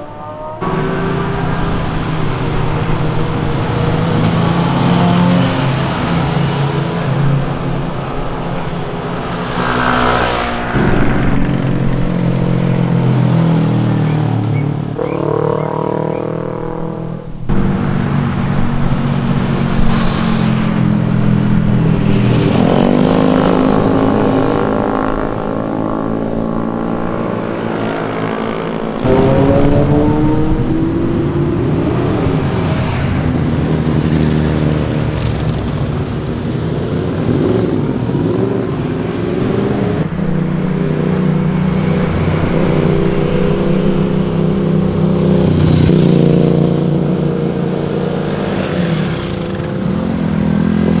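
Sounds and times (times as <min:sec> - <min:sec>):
motorcycle engines passing: 0:00.0 - 0:51.0.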